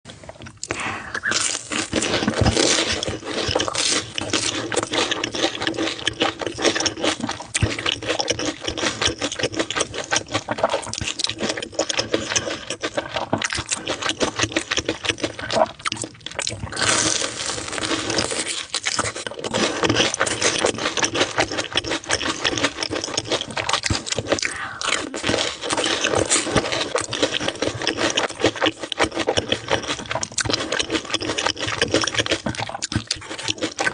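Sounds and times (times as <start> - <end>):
crunching and chewing: 0.1 - 33.9.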